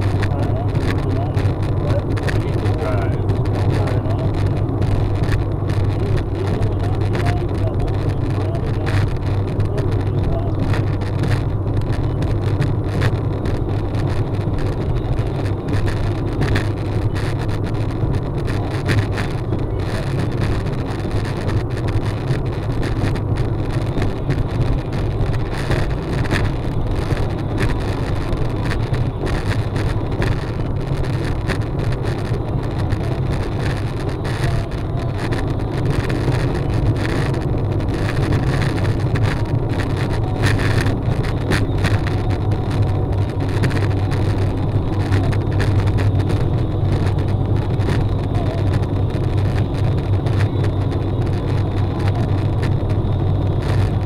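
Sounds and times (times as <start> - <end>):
road and engine drone: 0.0 - 54.0.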